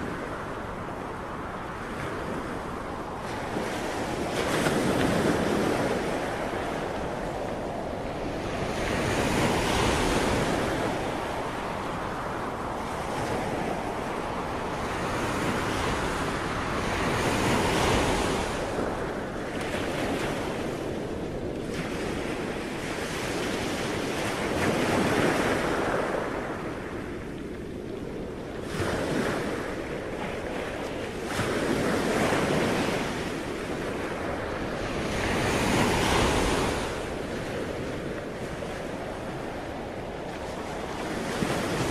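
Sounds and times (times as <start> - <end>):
ocean waves breaking: 0.0 - 41.9
wind: 0.0 - 41.9.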